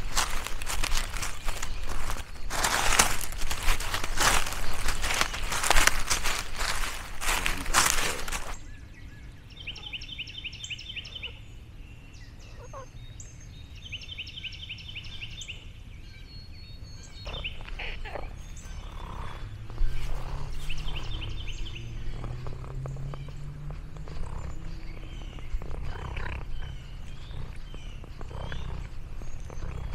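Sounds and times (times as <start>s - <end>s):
bird singing rapid trills: 0.0s - 29.9s.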